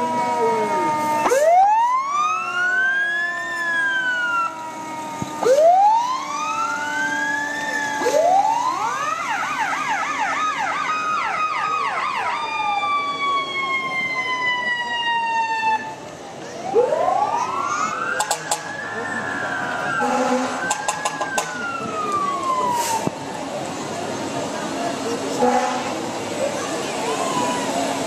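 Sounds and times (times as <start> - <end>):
steady siren tone sliding down: 0.0 - 16.0, 16.6 - 23.3
fire truck siren wailing: 0.0 - 28.0.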